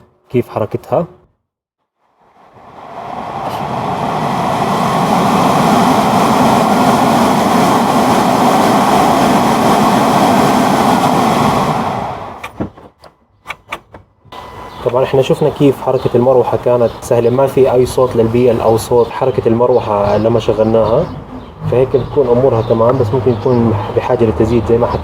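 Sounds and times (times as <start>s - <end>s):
blower fan running: 2.2s - 12.8s, 14.3s - 25.0s.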